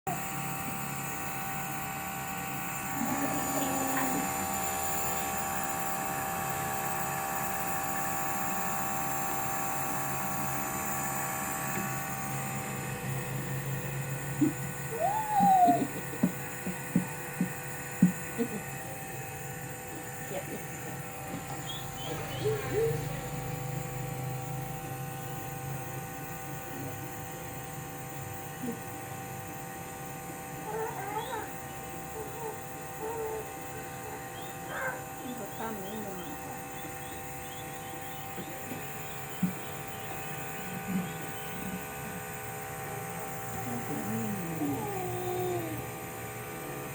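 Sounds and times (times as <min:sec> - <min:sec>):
nebulizer motor hum: 0:00.1 - 0:46.9.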